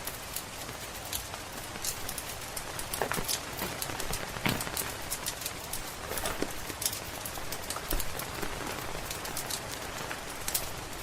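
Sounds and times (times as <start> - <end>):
steady rain hiss: 0.0 - 11.0
wood fire crackling and popping: 0.0 - 11.0.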